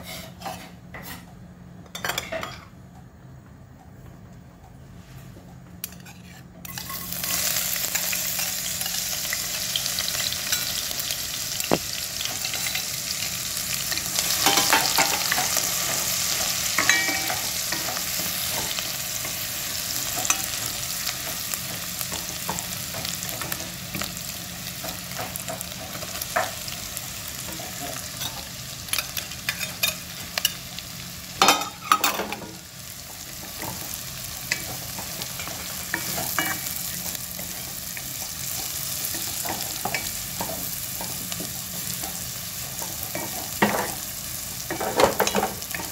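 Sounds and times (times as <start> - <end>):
garlic sizzling in oil: 6.7 - 45.9.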